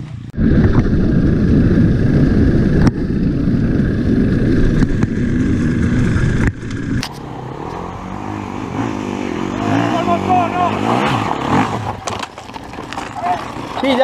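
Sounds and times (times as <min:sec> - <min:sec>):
dirt bike engine running: 0:00.0 - 0:14.0
wind rushing over microphone: 0:00.2 - 0:12.0.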